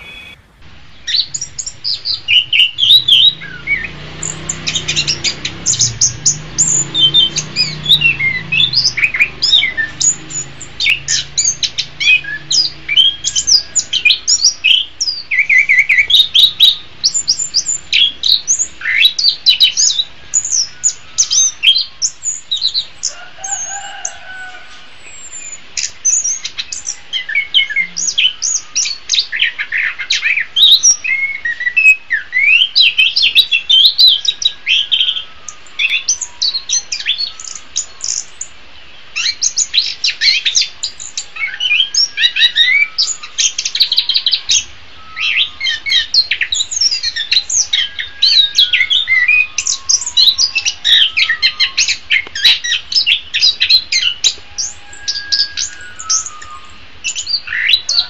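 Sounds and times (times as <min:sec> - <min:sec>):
thrush singing whistled notes: 0:00.0 - 0:24.2, 0:25.0 - 0:58.0.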